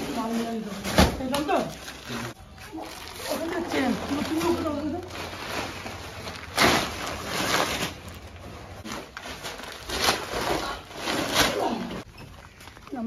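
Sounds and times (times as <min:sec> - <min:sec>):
plastic sacks rustling and bumping: 0:00.0 - 0:13.0.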